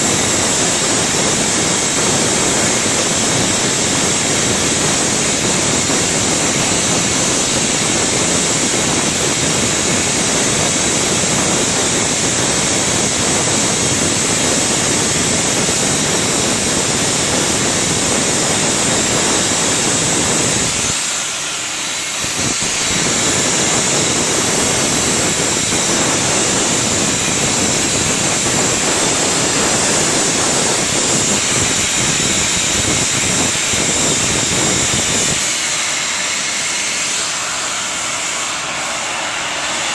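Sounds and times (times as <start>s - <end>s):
gas burner flame rushing: 0.0s - 39.9s.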